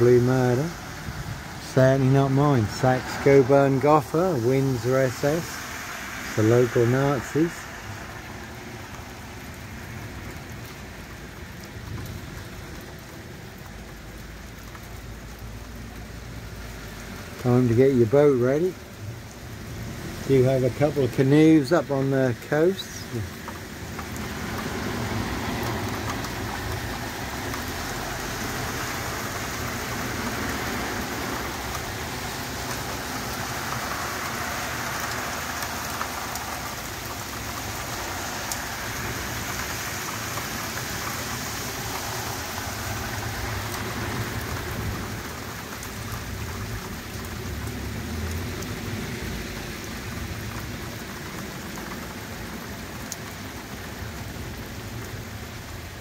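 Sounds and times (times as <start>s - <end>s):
car driving through floodwater: 0.0s - 56.0s
heavy rain on standing water: 0.0s - 56.0s.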